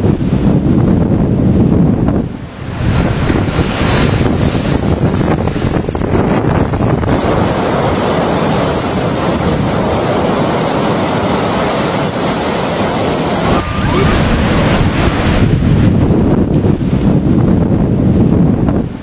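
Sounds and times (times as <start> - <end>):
wind buffeting microphone: 0.0 - 19.0
heavy waves crashing: 2.2 - 18.2.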